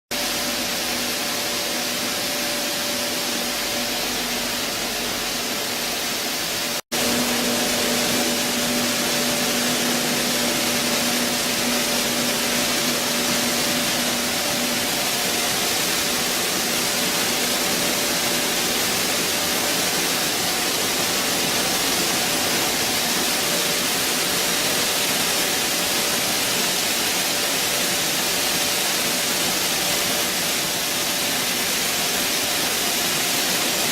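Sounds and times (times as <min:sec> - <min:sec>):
flour mill rushing noise: 0:00.1 - 0:33.9.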